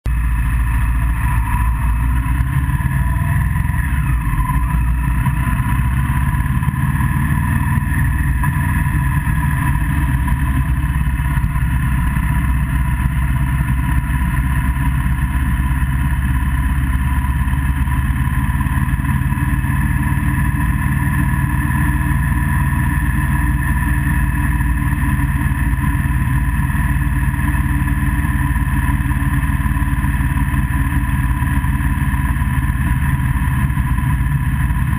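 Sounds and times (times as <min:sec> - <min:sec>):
vehicle running noise: 0:00.0 - 0:34.9
faint steady whine: 0:00.1 - 0:34.9.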